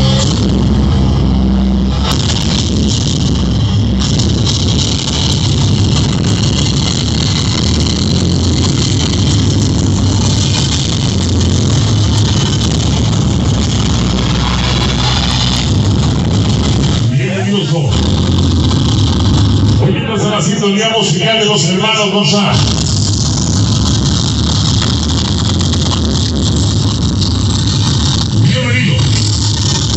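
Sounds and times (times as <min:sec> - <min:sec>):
loud distorted sound system music: 0:00.0 - 0:29.9.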